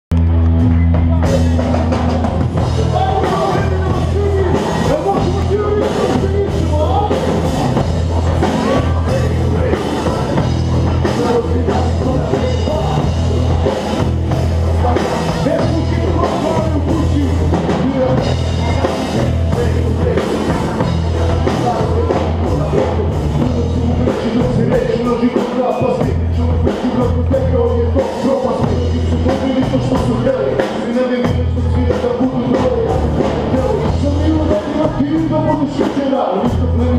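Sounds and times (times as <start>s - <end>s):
bass guitar: 0.0s - 36.9s
drum kit: 0.1s - 36.9s
electric guitars: 0.1s - 36.9s
voice on a microphone: 0.7s - 36.9s.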